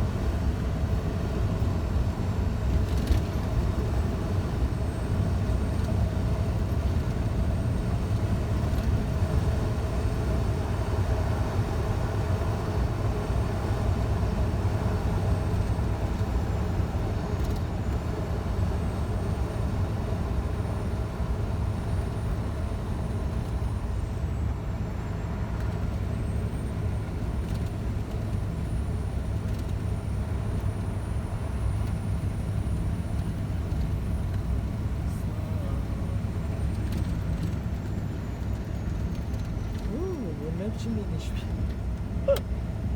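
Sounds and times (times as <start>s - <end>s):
truck engine and road noise: 0.0s - 42.9s.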